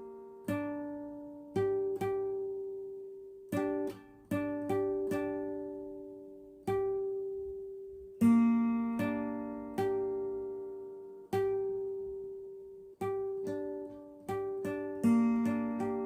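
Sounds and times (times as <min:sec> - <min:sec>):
guitar strums: 0:00.0 - 0:16.0.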